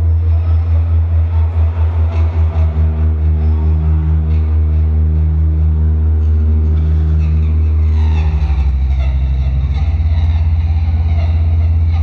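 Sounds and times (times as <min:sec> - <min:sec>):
ambient electronic music: 0:00.0 - 0:12.0.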